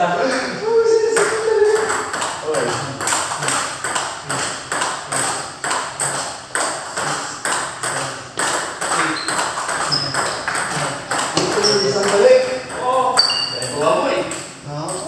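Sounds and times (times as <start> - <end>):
table tennis balls clicking: 1.1 - 15.0.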